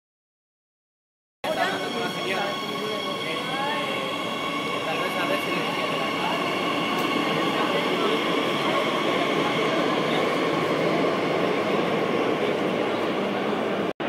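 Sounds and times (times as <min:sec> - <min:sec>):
high multi-tone train whine: 0:01.4 - 0:13.9
train running on rails: 0:01.4 - 0:13.9.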